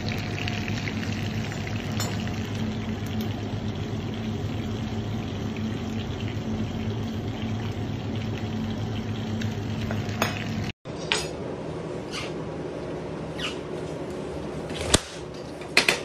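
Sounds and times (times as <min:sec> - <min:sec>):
kitchen hum: 0:00.0 - 0:16.0.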